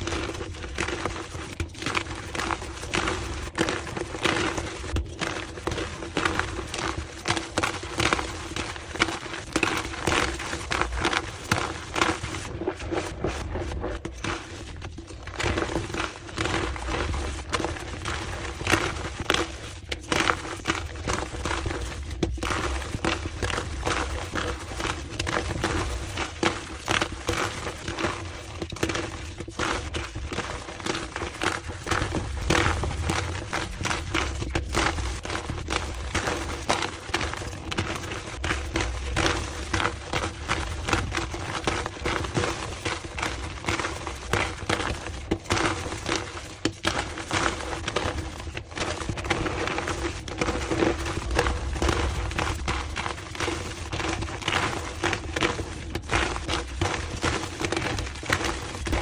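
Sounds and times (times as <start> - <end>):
chalk crushing and crunching: 0.0 - 59.0.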